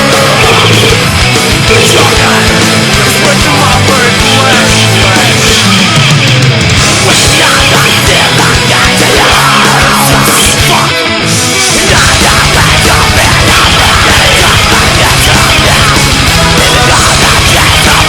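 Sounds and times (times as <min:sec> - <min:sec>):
fast pounding drums: 0:00.0 - 0:18.0
heavy metal music: 0:00.0 - 0:18.0.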